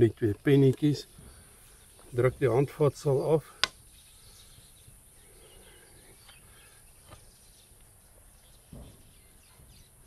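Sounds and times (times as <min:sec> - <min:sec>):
faint chirps: 0:00.5 - 0:10.0.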